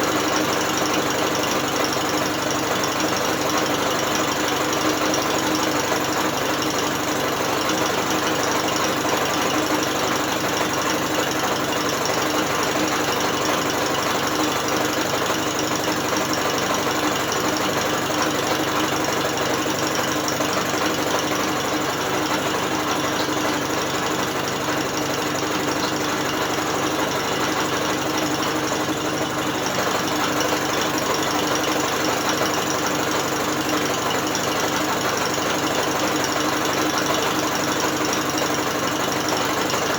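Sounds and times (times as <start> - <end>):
outboard motor whirring and rattling: 0.0 - 39.9.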